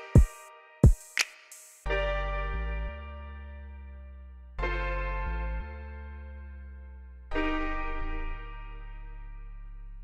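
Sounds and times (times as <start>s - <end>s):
sustained keyboard chords: 0.0s - 1.2s, 1.8s - 10.0s
steady bass: 1.9s - 10.0s.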